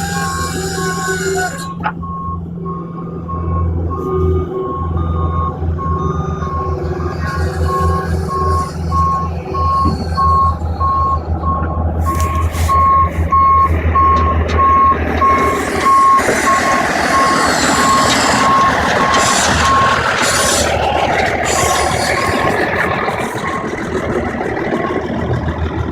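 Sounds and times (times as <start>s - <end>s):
heavy engine humming: 0.0s - 25.9s
vehicle reversing alarm beeping: 0.0s - 25.9s.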